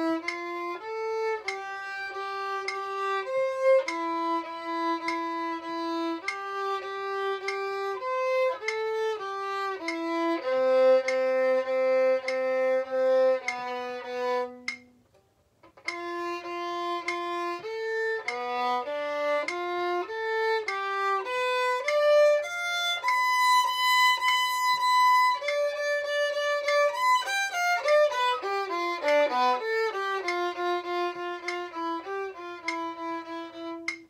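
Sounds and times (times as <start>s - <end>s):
solo violin playing: 0.0s - 15.0s, 15.7s - 34.0s.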